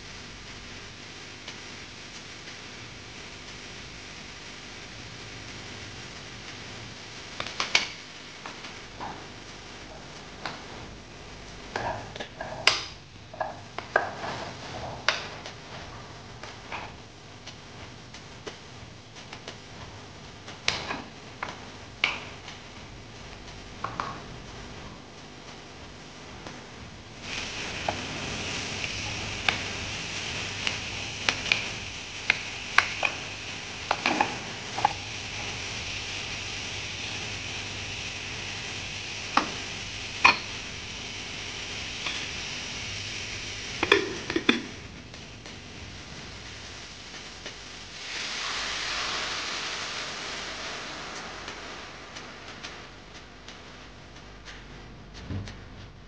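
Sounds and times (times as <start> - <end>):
vegetables sizzling: 0.0 - 54.6.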